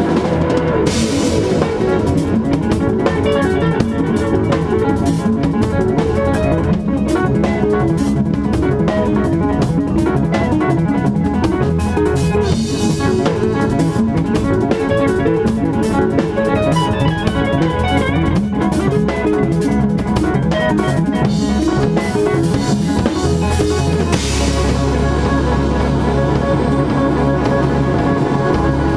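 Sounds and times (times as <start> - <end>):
drum kit: 0.0 - 28.9
electric guitars: 0.0 - 28.9.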